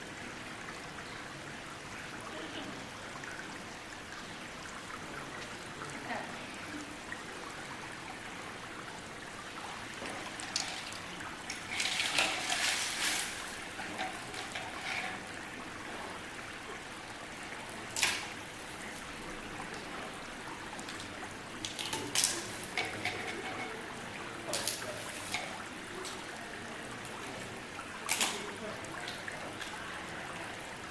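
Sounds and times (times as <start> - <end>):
steady background hiss: 0.0 - 30.9.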